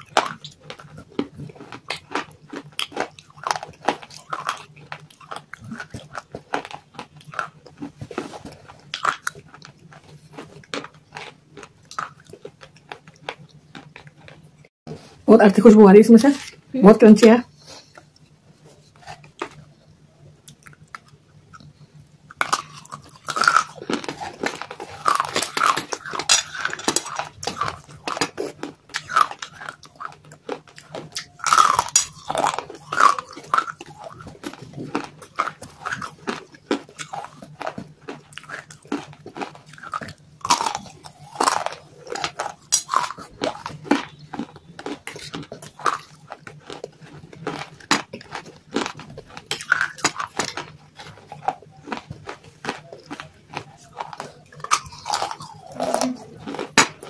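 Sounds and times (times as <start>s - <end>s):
crunchy chewing: 0.0s - 15.2s, 17.5s - 57.0s
faint hum: 0.0s - 57.0s.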